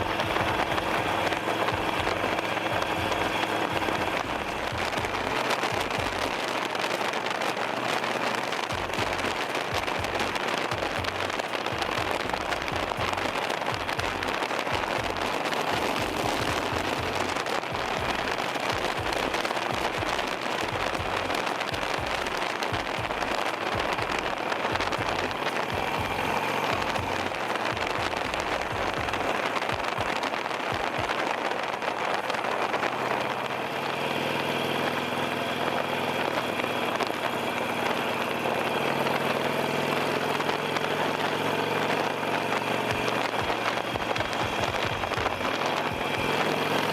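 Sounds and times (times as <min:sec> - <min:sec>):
wind buffeting rumbles: 0:00.0 - 0:46.9
wind rushing on camera microphone: 0:00.0 - 0:46.9.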